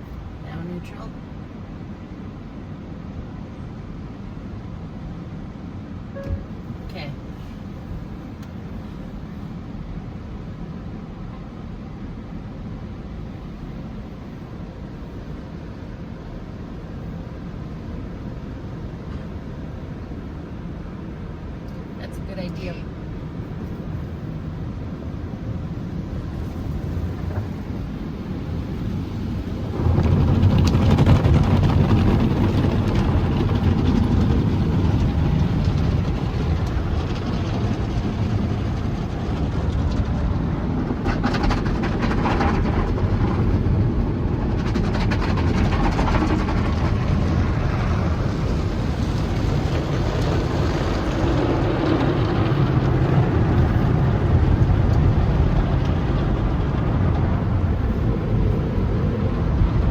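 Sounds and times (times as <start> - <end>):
car wash machinery rumbling: 0.0 - 59.9.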